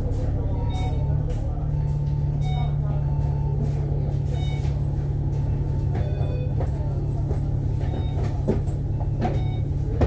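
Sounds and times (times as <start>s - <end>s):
bus engine and road noise drone: 0.0s - 10.0s.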